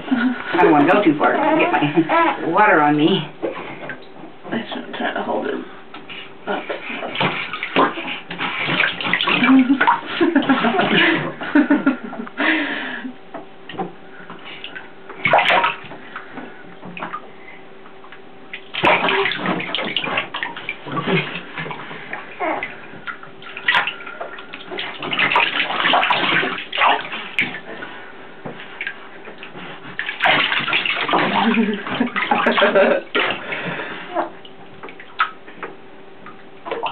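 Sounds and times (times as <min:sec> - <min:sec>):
bathwater splashing and sloshing: 0:00.0 - 0:12.3, 0:13.4 - 0:36.9.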